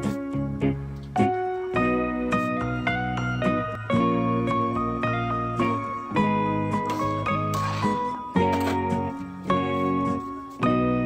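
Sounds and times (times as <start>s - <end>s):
gentle instrumental melody: 0.0s - 11.0s.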